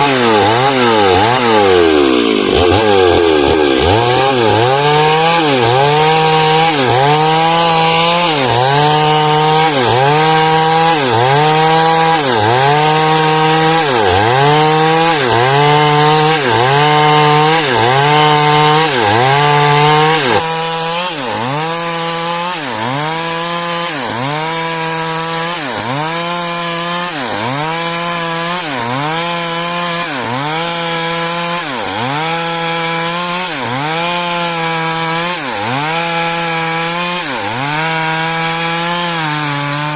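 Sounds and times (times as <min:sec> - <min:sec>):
chainsaw sawing through log: 0:00.0 - 0:39.9.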